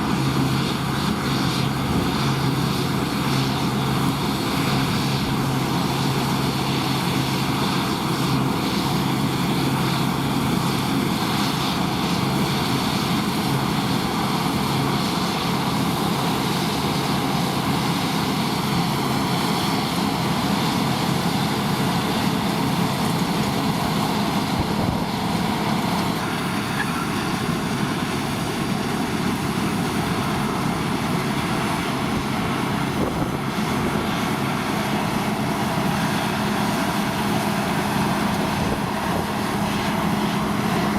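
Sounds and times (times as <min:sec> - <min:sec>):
combine harvester engine drone: 0:00.0 - 0:40.9
threshing machinery hum: 0:00.0 - 0:40.9.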